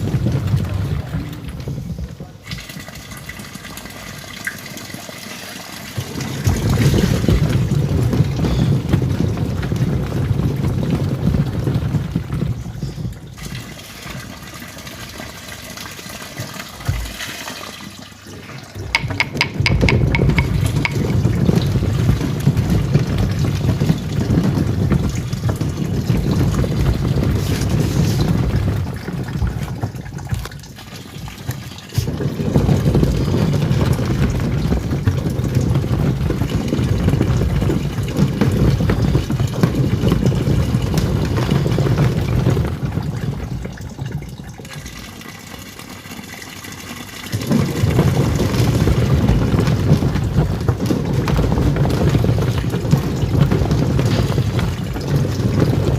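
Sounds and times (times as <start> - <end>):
washing machine churning water: 0.0 - 55.9.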